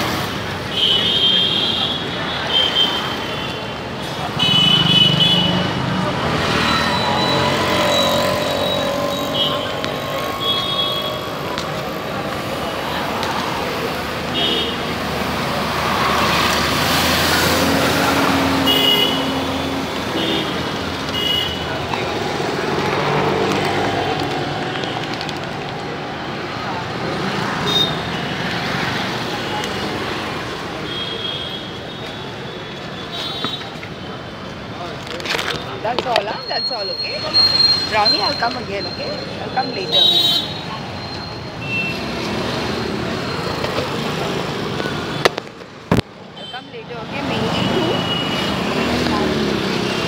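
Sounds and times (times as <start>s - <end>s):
street traffic noise: 0.0s - 50.0s.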